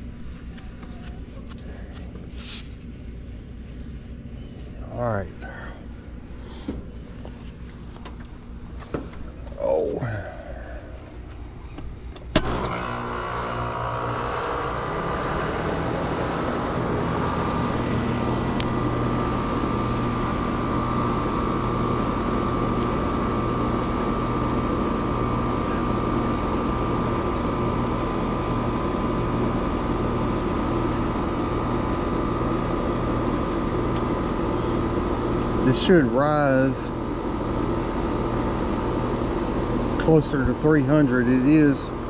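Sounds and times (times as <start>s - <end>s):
heat pump compressor and fan running: 0.0s - 42.0s.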